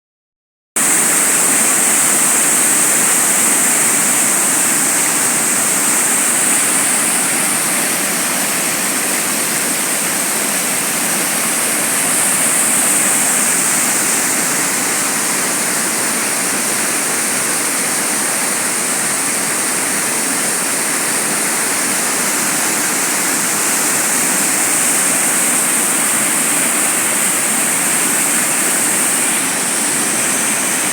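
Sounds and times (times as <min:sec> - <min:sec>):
waterfall roaring: 0:00.8 - 0:30.9.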